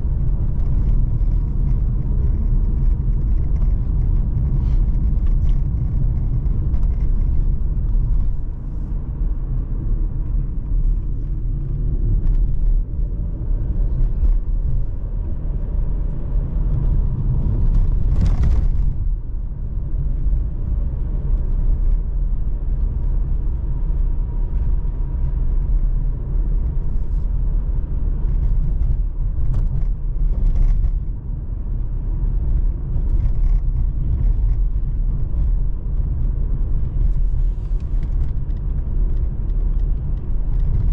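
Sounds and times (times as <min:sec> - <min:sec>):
car engine low rumble: 0:00.0 - 0:40.9
road noise: 0:00.0 - 0:40.9.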